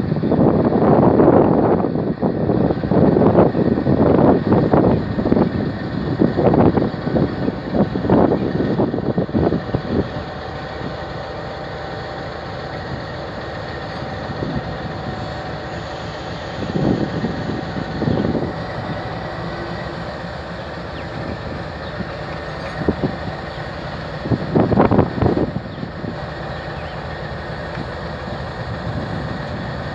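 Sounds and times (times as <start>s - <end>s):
diesel locomotive engine drone: 0.0s - 29.9s
low rushes: 0.0s - 29.9s.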